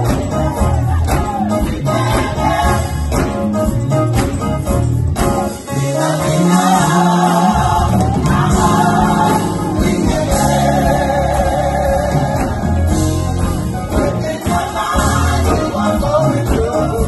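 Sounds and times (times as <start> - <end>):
gospel choir singing: 0.0 - 3.8, 5.3 - 17.0
live band with strong bass: 0.0 - 17.0.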